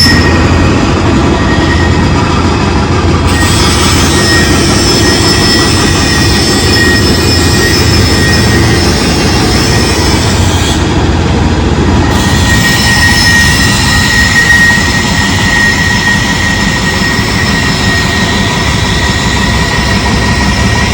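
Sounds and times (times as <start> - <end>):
high-pitched machine whines: 0.0 - 10.9, 11.9 - 20.9.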